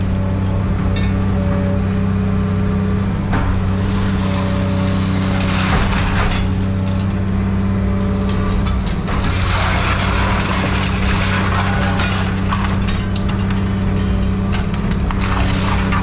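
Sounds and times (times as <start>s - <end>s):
hydraulic machine droning: 0.0s - 16.0s
metal crunching: 0.0s - 16.0s.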